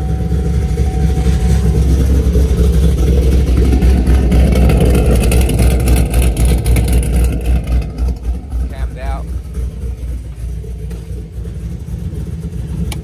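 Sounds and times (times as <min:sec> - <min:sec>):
car exhaust low rumble: 0:00.0 - 0:13.0.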